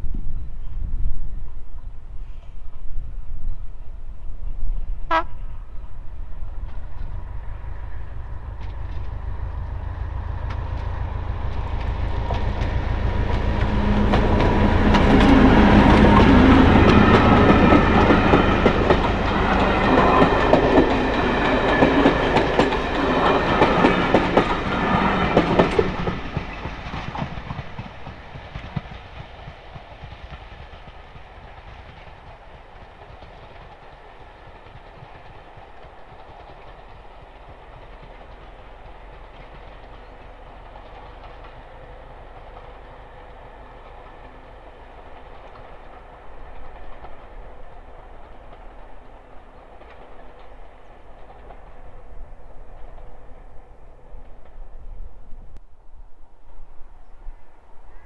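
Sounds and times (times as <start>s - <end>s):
diesel locomotive engine drone: 3.8s - 58.0s
train wheels clicking over rail joints: 6.5s - 55.6s.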